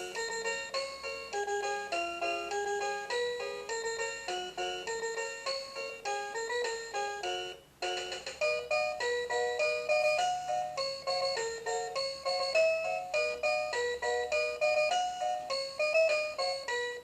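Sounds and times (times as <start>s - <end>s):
toy playing electronic melody: 0.0s - 17.0s.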